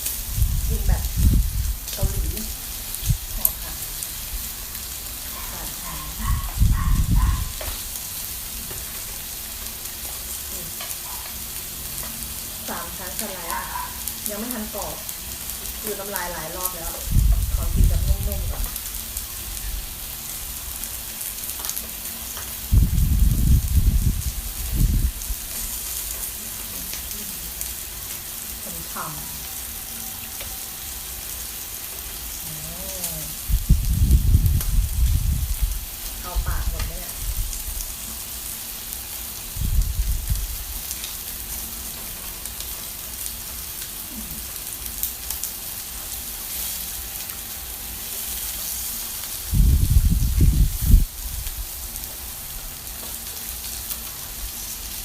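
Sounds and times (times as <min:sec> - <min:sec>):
meat sizzling on grill pan: 0:00.0 - 0:55.0.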